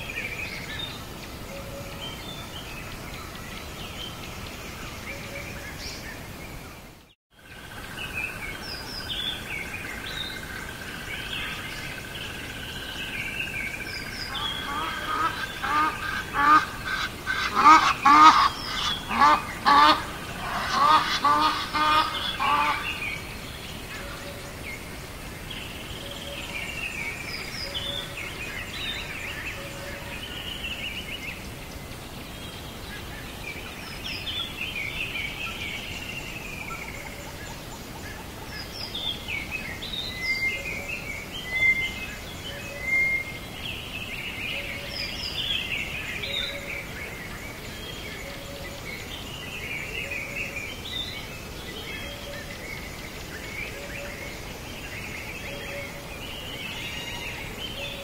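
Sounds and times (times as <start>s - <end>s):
bird chirping and songs: 0.0s - 58.0s
rapid repeated bird calls: 4.1s - 58.0s.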